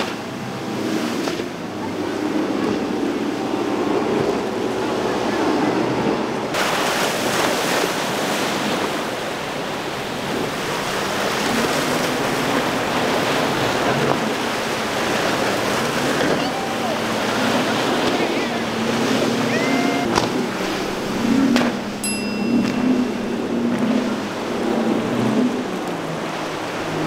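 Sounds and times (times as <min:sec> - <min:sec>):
outboard engines: 0:00.0 - 0:27.0
breaking waves and spray: 0:02.2 - 0:27.0.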